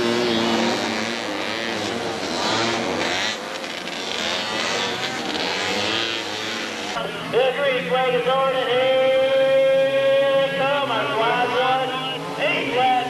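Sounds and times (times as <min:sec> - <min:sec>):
off-road buggy engines revving: 0:00.0 - 0:13.0.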